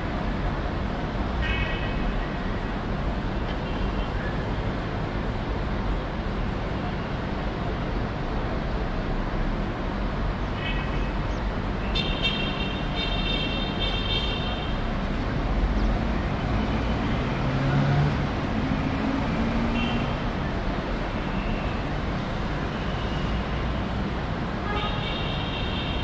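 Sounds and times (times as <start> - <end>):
distant traffic rumble: 0.0 - 26.0.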